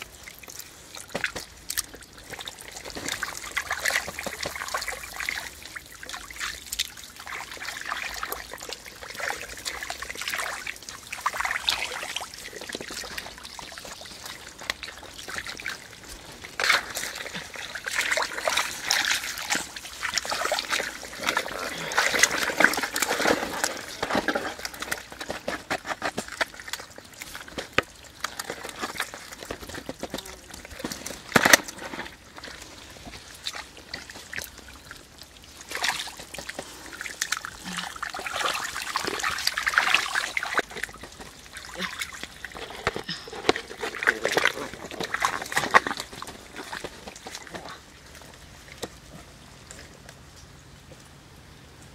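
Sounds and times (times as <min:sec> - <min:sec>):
muddy water sloshing and splashing: 0:00.0 - 0:50.8.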